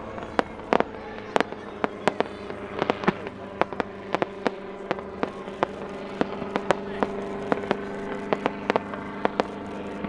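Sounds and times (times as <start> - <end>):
firework cracks and bangs: 0.0 - 9.6
helicopter hum: 0.0 - 10.0.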